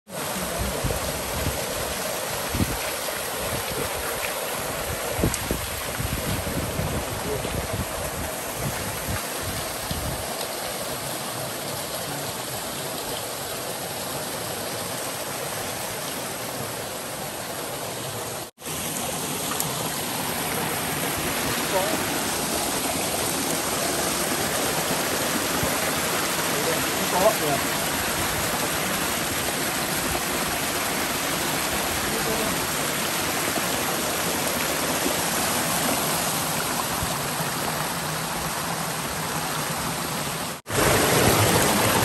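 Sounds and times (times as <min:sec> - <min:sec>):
stream and waterfall rushing: 0:00.1 - 0:42.0.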